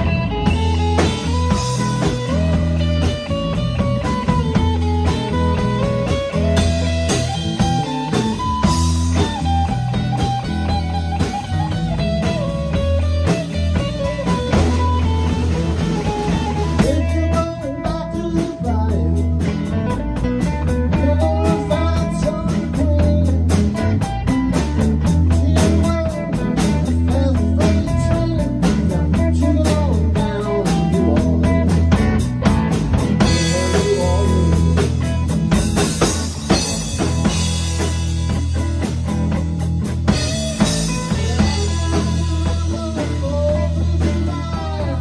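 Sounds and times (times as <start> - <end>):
bass line: 0.0 - 45.0
drum kit: 0.0 - 45.0
electric guitar lead: 0.0 - 45.0.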